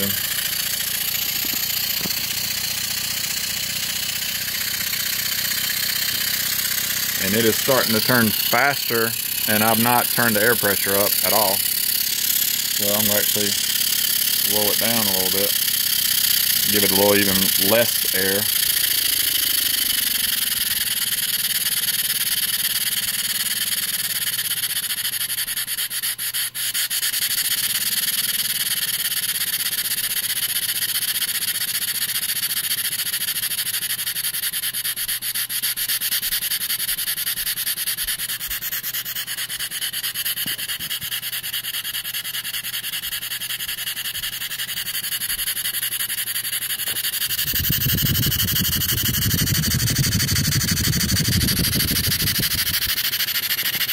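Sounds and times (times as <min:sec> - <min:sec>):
steam engine hissing chuff: 0:00.0 - 0:53.9.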